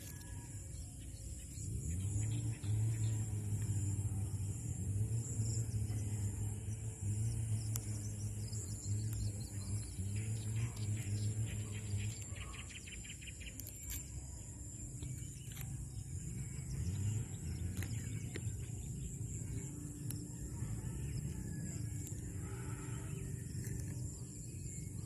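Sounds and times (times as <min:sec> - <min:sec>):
birds chirping: 0:00.0 - 0:25.0
high-pitched hum: 0:00.0 - 0:25.0.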